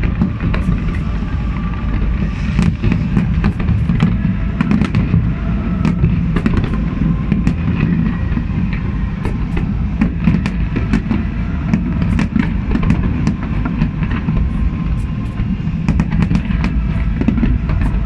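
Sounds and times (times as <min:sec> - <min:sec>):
fireworks popping and banging: 0:00.0 - 0:18.0
low rumble: 0:00.0 - 0:18.0.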